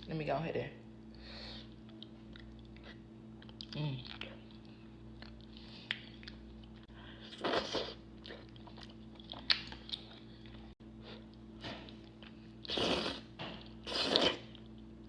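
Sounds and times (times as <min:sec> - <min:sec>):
person chewing noodles: 0:01.6 - 0:15.0.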